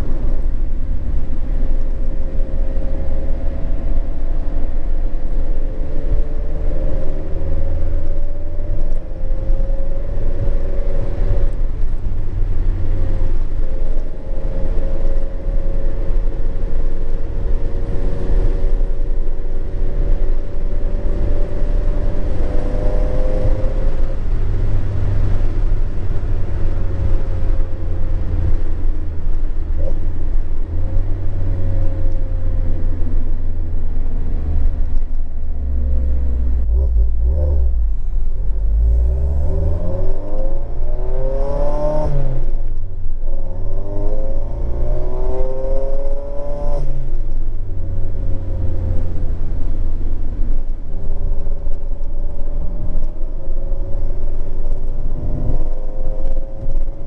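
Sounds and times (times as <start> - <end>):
low exhaust rumble: 0.0 - 57.0.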